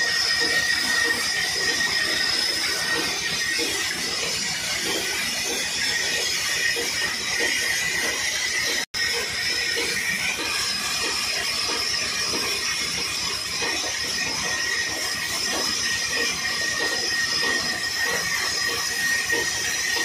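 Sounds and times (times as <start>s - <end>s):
band saw cutting a log: 0.0s - 20.0s.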